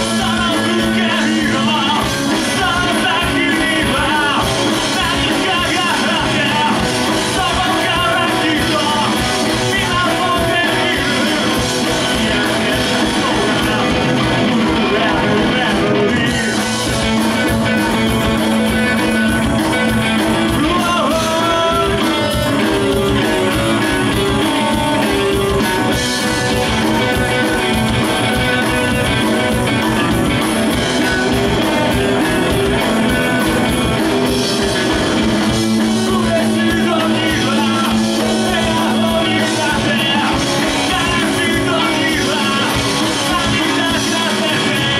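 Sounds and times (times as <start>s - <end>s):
electric guitar: 0.0s - 44.9s
person singing: 0.0s - 44.9s
steady dense drum beat: 0.0s - 44.9s.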